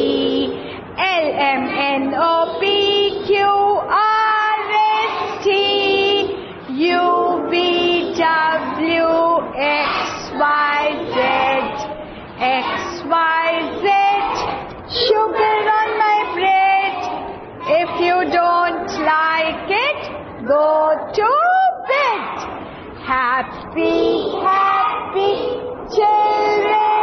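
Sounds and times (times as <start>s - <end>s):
woman and children singing: 0.0s - 27.0s.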